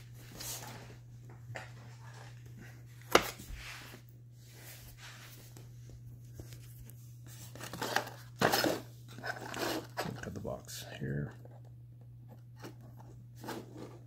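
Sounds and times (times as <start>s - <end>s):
boxes rustling and scraping: 0.0s - 14.0s.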